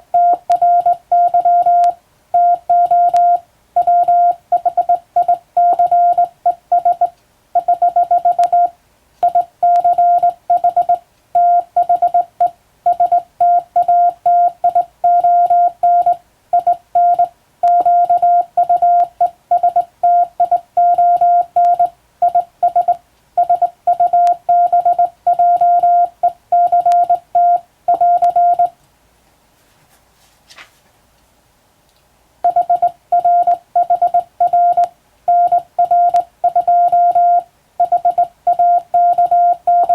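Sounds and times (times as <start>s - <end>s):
morse code beeping: 0.1s - 28.7s, 32.4s - 39.9s.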